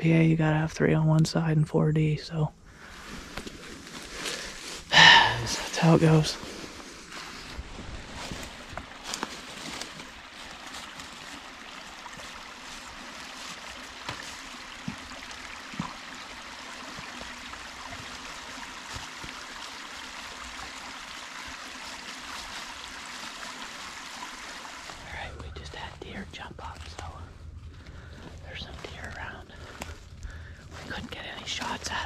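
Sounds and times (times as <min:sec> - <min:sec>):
stream trickling over rocks: 0:03.2 - 0:32.0.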